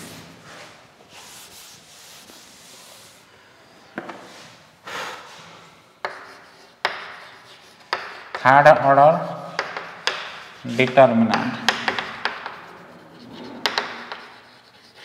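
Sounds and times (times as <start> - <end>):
chalk strokes on a board: 0.0 - 4.6, 6.0 - 15.0
cloth wiping a chalkboard: 0.0 - 15.0.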